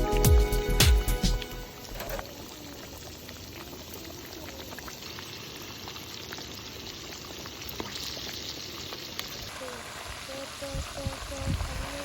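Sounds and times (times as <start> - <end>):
food sizzling and bubbling: 0.0 - 12.0.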